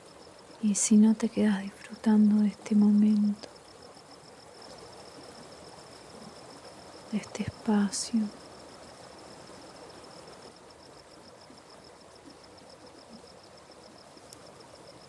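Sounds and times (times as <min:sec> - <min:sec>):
insect high chirp: 0:00.0 - 0:15.0.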